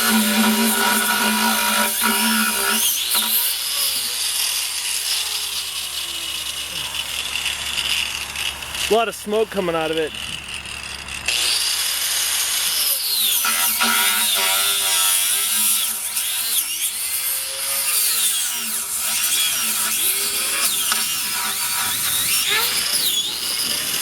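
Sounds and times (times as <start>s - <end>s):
angle grinder cutting rubber: 0.0s - 24.0s.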